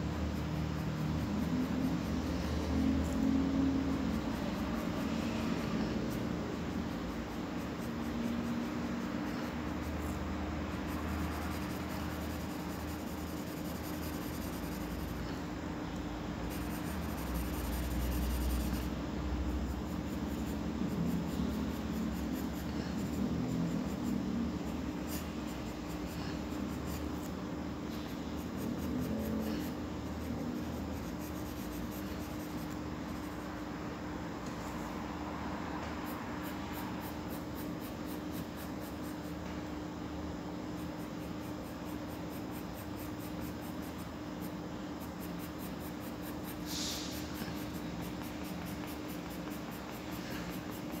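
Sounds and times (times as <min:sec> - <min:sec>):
pencil scratching on paper: 0:00.0 - 0:15.5, 0:16.4 - 0:33.5, 0:40.8 - 0:51.0
low background hum: 0:00.0 - 0:51.0.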